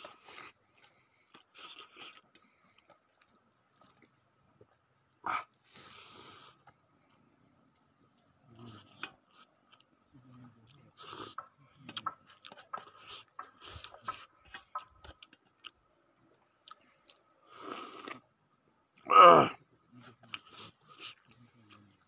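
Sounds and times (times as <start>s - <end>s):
man chewing food: 0.0s - 18.3s, 20.2s - 22.0s.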